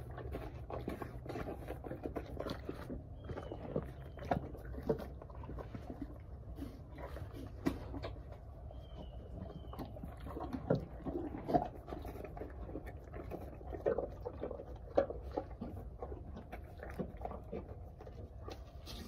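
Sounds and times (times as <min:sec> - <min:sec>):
horse chewing apple: 0:00.0 - 0:19.0.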